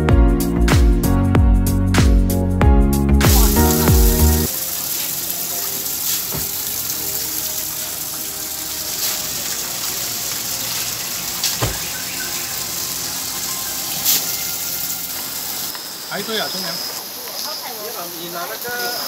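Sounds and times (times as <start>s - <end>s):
river water flowing: 3.2s - 19.0s.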